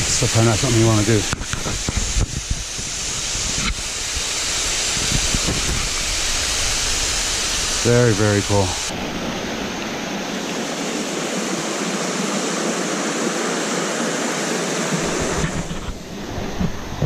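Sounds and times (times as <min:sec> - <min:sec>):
creek rushing over rocks: 0:00.0 - 0:17.0.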